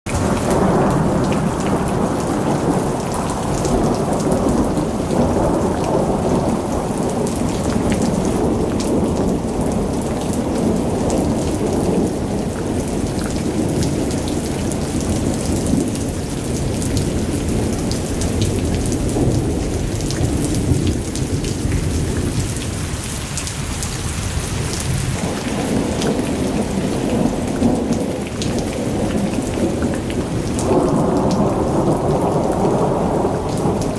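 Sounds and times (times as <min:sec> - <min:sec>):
heavy rain falling: 0:00.1 - 0:33.9
thunder rolling and rumbling: 0:00.1 - 0:33.9.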